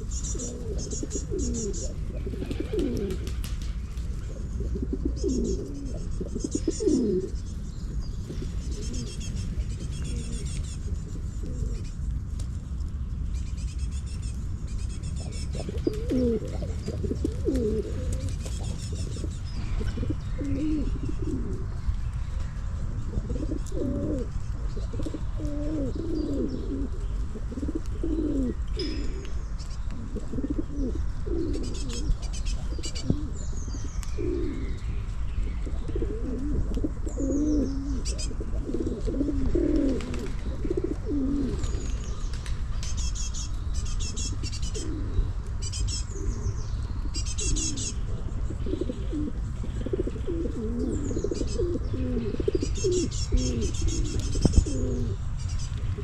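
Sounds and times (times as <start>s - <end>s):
pigeons cooing: 0.0s - 12.1s, 13.8s - 56.0s
small birds chirping: 0.0s - 56.0s
steady low rumble: 0.0s - 56.0s.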